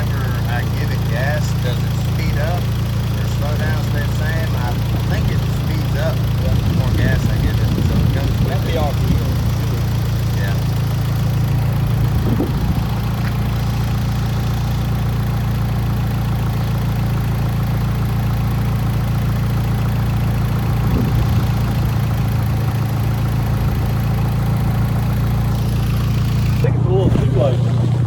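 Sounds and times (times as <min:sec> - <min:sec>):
light engine tick: 0:00.0 - 0:26.7
car engine idling: 0:00.0 - 0:28.0.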